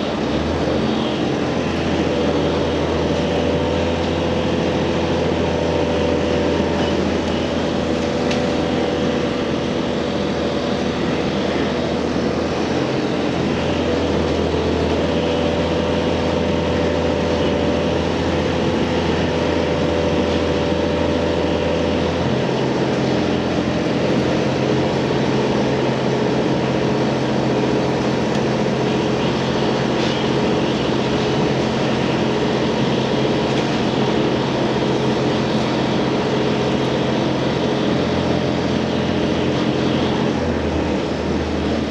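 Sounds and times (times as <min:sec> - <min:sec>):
railcar engine drone: 0:00.0 - 0:41.9
wheel and track noise: 0:00.0 - 0:41.9.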